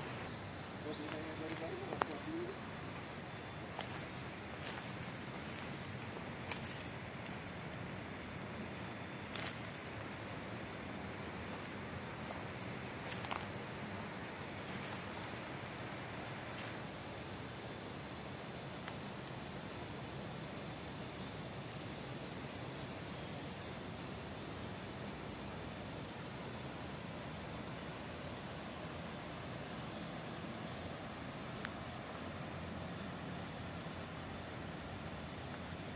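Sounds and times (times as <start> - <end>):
garden ambience hiss: 0.0 - 35.9
insects droning: 0.0 - 35.9.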